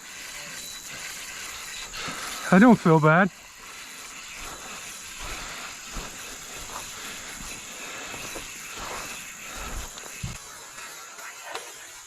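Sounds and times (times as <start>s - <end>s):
flowing creek water: 0.0s - 12.0s.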